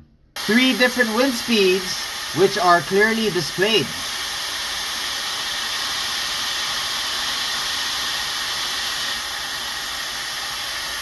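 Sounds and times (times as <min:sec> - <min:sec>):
hair dryer blowing air: 0:00.4 - 0:11.0.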